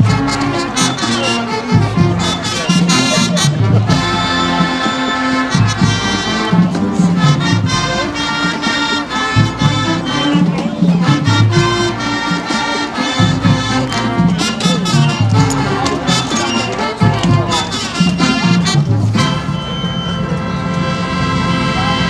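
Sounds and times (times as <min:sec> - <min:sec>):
brass chords: 0:00.0 - 0:22.0
drums: 0:00.0 - 0:22.0
low brass bass line: 0:00.0 - 0:22.0.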